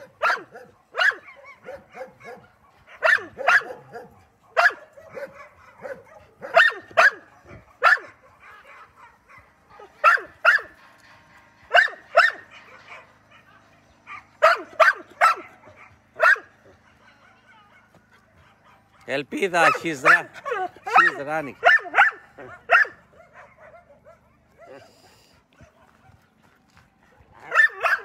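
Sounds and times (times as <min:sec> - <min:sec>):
dogs barking: 0:00.0 - 0:28.0.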